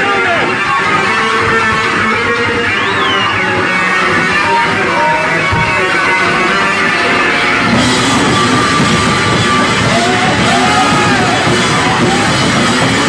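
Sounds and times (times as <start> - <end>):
distorted bass guitar riffs: 0.0 - 13.0.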